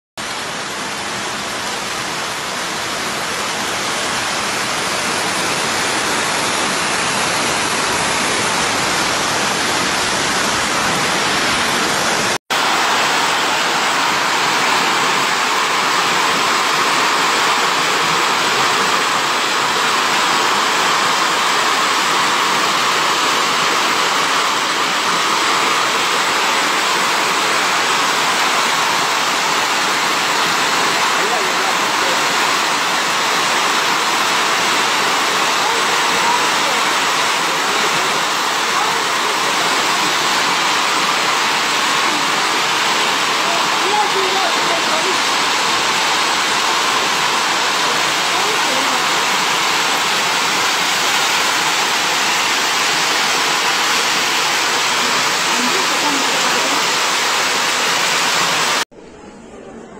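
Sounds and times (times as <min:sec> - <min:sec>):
hail and rain pelting down: 0:00.2 - 0:58.8.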